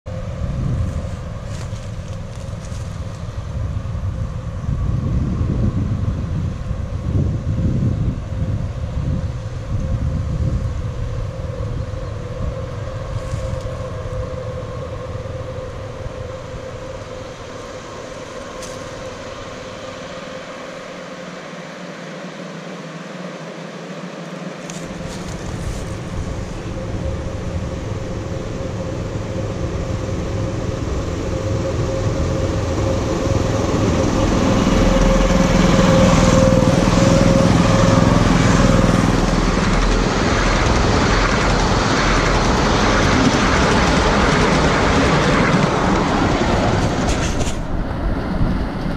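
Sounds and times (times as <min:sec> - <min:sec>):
locomotive hum: 0:00.1 - 0:48.9
wheels rumbling on rails: 0:00.1 - 0:48.9.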